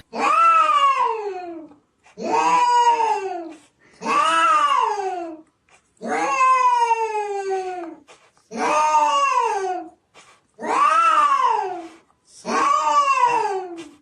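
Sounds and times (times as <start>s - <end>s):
cat yowling: 0.1s - 5.4s, 6.0s - 9.9s, 10.6s - 14.0s.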